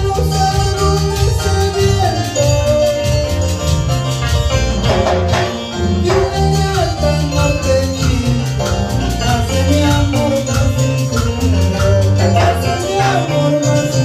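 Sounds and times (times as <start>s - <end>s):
live latin dance band: 0.0s - 14.0s.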